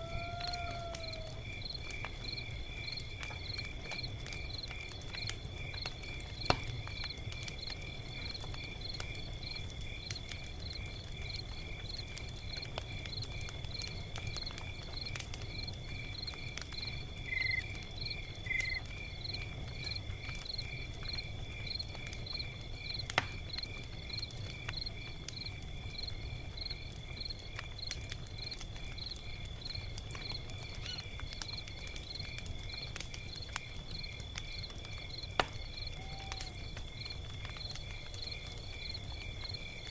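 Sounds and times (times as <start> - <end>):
crickets chirping: 0.0 - 39.9
log fire crackling and popping: 0.0 - 39.9.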